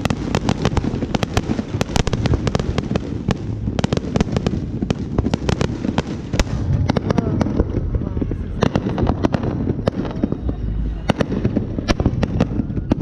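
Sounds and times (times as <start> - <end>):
fireworks cracking and banging: 0.0 - 13.0
low rumble: 0.0 - 13.0.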